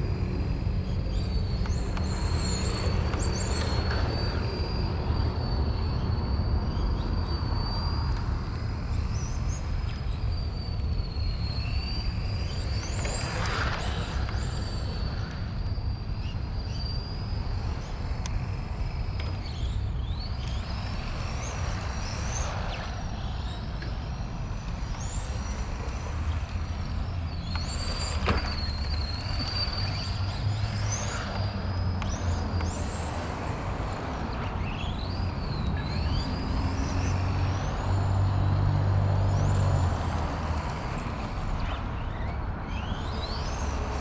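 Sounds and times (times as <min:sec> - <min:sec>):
continuous low rumble: 0:00.0 - 0:44.0
rc car motor whining: 0:00.0 - 0:44.0.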